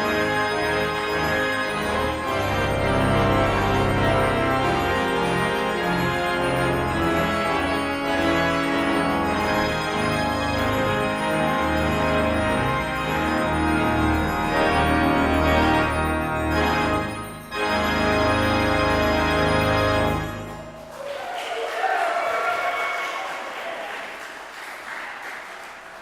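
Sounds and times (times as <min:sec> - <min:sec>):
organ playing sustained chords: 0:00.0 - 0:21.0.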